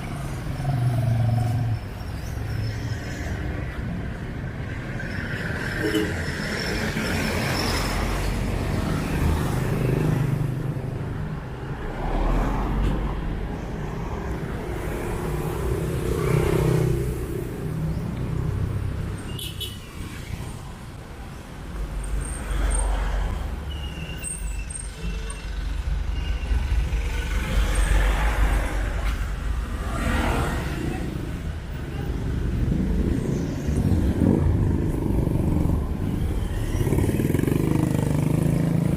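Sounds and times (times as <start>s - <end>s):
cars passing with engine rumble: 0.0s - 38.9s.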